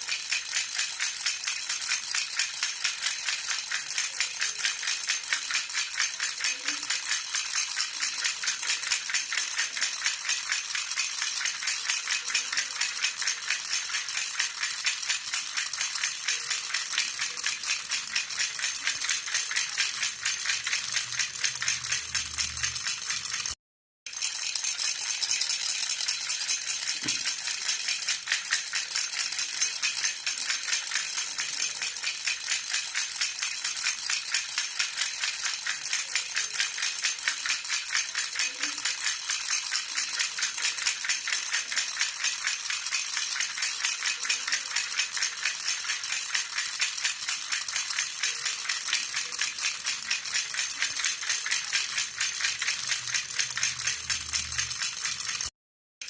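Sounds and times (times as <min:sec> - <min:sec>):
baby rattle jingling: 0:00.0 - 0:55.5.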